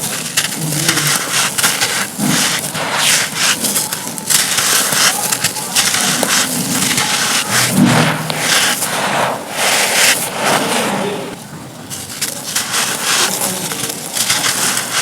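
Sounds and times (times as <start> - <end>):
dry material crunching by hand: 0.0 - 15.0.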